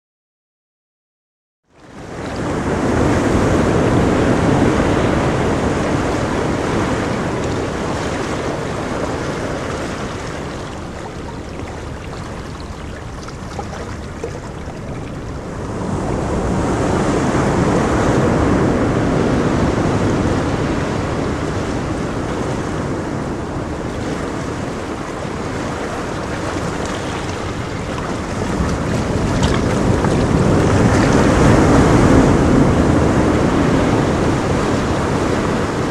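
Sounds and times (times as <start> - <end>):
waves washing onto beach: 1.8 - 35.9
wind buffeting microphone: 2.0 - 35.9.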